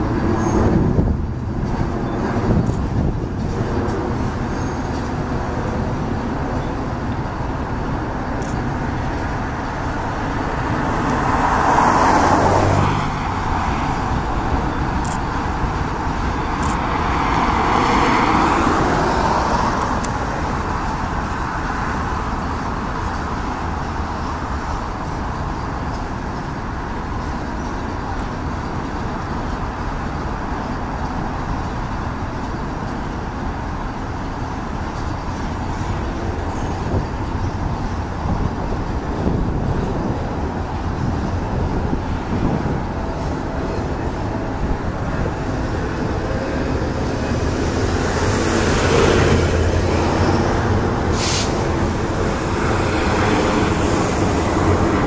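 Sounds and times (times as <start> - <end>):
freight train rumbling by: 0.0 - 55.0
road vehicles passing close by: 0.0 - 55.0.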